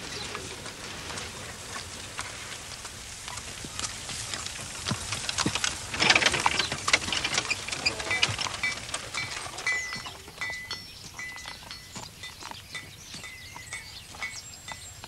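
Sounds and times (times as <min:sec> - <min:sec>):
wagon wheels and hooves clattering: 0:00.0 - 0:15.0.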